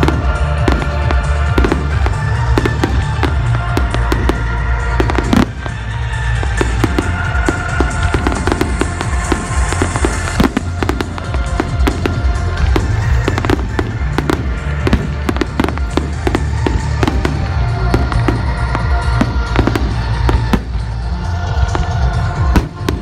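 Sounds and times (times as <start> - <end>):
fireworks bursting: 0.0 - 23.0
music playing: 0.0 - 23.0.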